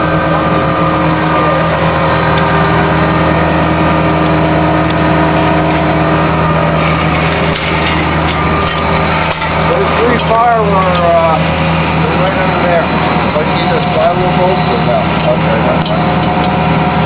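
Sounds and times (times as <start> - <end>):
truck engine humming: 0.0 - 17.0.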